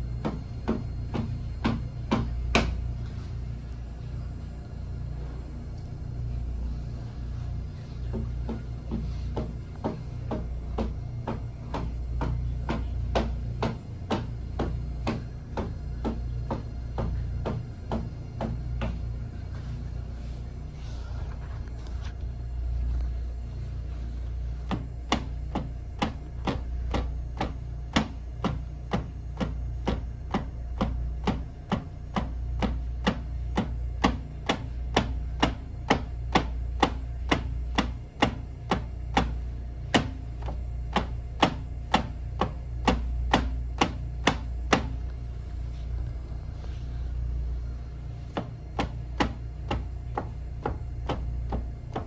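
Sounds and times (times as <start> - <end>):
low hum: 0.0 - 34.0, 34.6 - 52.0.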